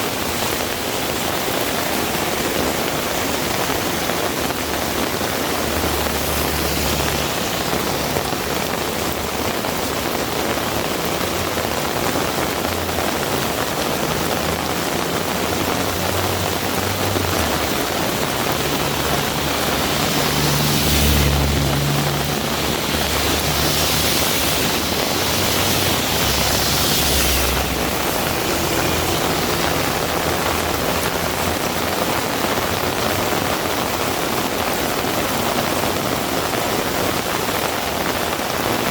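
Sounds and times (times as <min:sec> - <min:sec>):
heavy rain pouring: 0:00.0 - 0:38.9
vehicle passing on wet road: 0:00.0 - 0:38.9.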